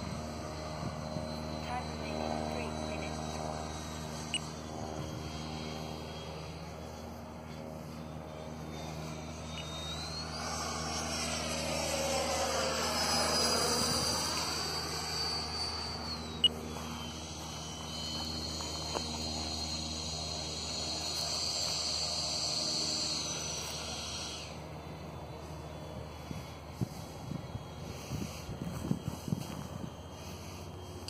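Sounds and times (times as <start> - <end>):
model jet whine: 0.0 - 31.0.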